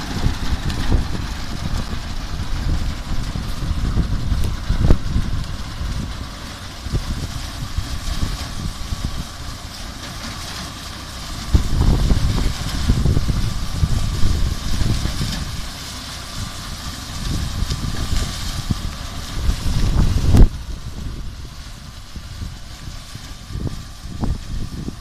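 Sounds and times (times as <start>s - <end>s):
wind buffeting microphone: 0.0s - 9.6s, 11.3s - 15.8s, 16.4s - 25.0s
machine engine running: 0.0s - 25.0s.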